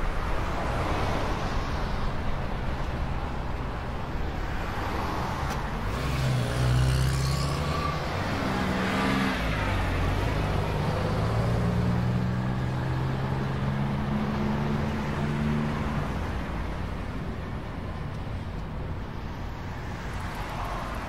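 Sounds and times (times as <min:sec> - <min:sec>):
tyre and road noise: 0:00.0 - 0:21.0.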